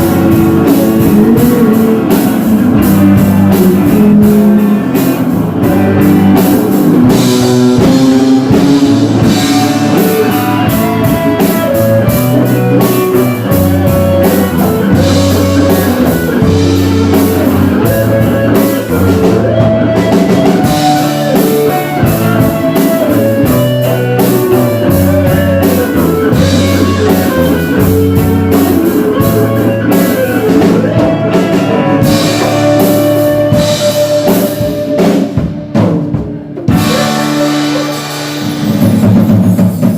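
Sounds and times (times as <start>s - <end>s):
drum kit beat: 0.0s - 39.9s
electric guitar: 0.0s - 39.9s
rock music: 0.0s - 39.9s.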